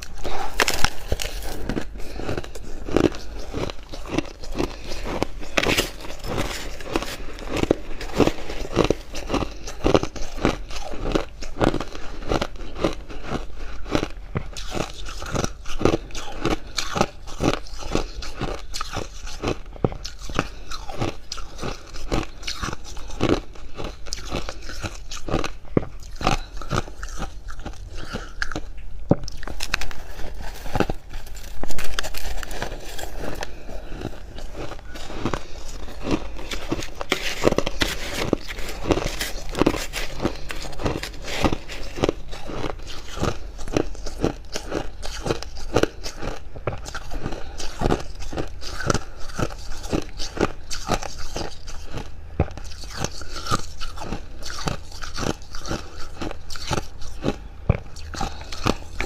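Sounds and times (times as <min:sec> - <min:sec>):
person chewing crunchy frost: 0:00.0 - 0:59.0.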